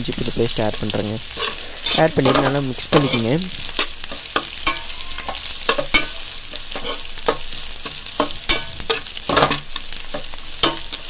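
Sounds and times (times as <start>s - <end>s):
vegetables sizzling: 0.0s - 11.0s
metal spoon scraping a pan: 0.8s - 11.0s.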